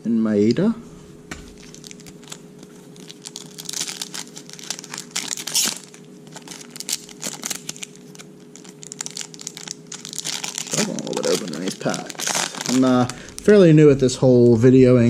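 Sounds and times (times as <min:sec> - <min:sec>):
faint steady hum: 0:00.0 - 0:15.0
foil wrapper crinkling and tearing: 0:01.5 - 0:14.1.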